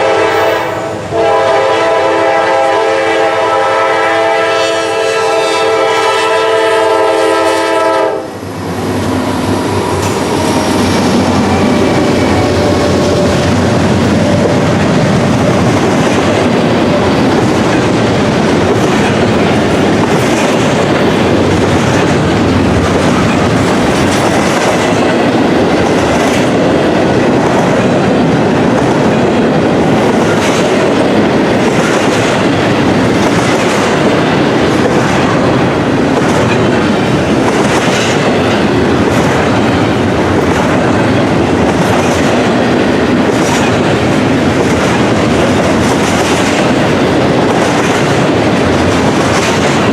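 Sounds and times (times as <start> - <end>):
train wheels rumbling on rail: 0.0 - 49.9
wheels click-clacking on rail joints: 9.0 - 49.9.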